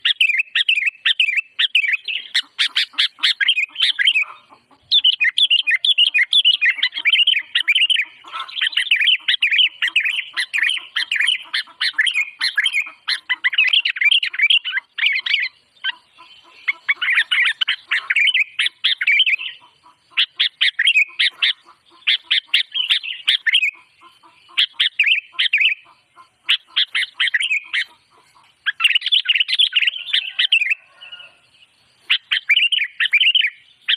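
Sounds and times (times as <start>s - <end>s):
songbird chirping: 0.0s - 33.9s.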